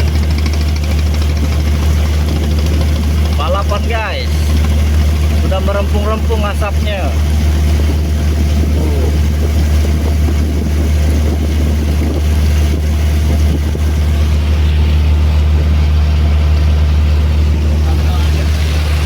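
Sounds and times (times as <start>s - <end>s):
boat engine deep drone: 0.0s - 19.0s.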